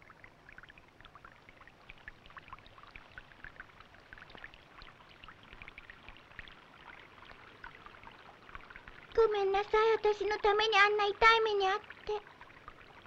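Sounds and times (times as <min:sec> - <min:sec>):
stream trickling water: 0:00.0 - 0:13.0.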